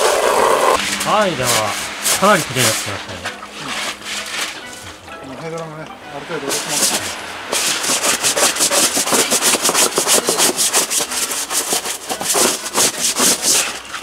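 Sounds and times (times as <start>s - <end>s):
hose spray hissing: 0.0s - 4.6s, 6.2s - 13.6s
brush scrubbing plastic liner: 1.0s - 5.0s, 6.4s - 14.0s.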